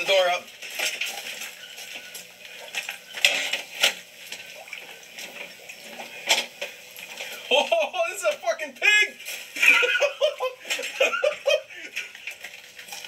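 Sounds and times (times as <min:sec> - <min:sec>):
water splashing and sloshing: 0:00.0 - 0:07.6, 0:09.2 - 0:13.0.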